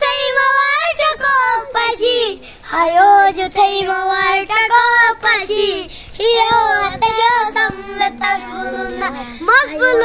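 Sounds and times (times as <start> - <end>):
child singing: 0.0 - 10.0.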